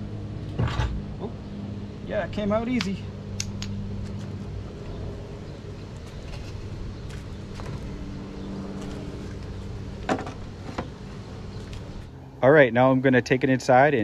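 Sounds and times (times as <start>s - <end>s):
low motor hum: 0.0s - 12.5s.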